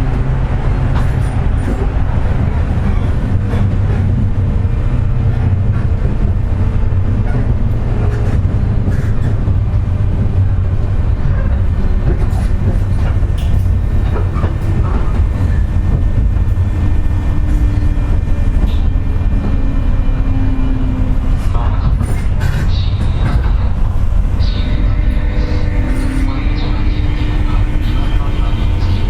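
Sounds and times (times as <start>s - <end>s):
steady motor tones: 0.0s - 22.0s, 23.0s - 29.0s
train wheels rumbling on rail: 0.0s - 29.0s.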